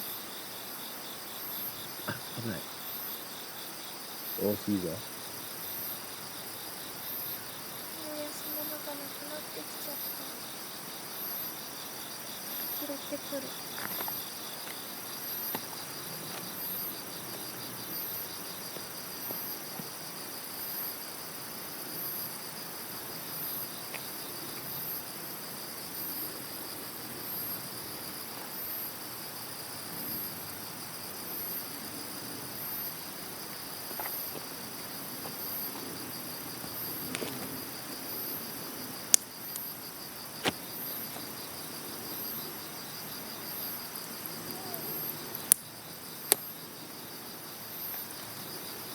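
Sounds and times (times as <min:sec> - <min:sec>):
crickets chirping: 0:00.0 - 0:48.9
insect trill: 0:00.0 - 0:48.9.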